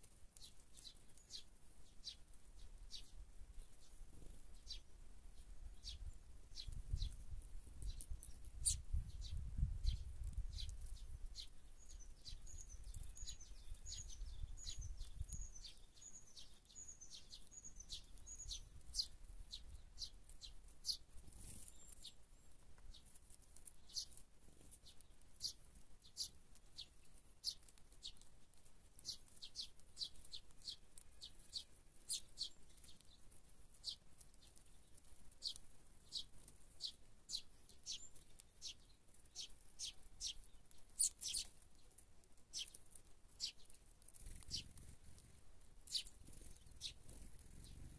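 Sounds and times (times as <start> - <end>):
sparrows chirping: 0.0 - 47.9.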